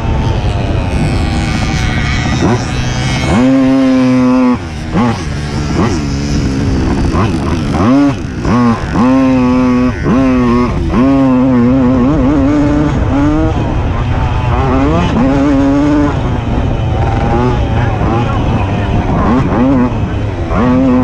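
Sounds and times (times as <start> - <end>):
moped engine revving: 0.0 - 21.0.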